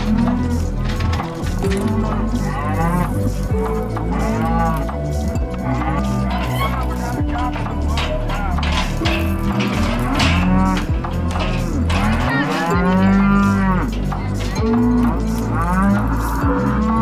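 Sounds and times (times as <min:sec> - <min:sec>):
cattle mooing: 0:00.0 - 0:17.0.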